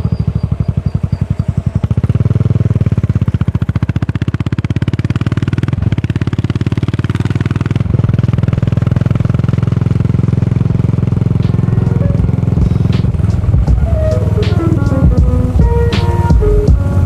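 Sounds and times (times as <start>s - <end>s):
motorcycle exhaust beat: 0.0s - 17.0s.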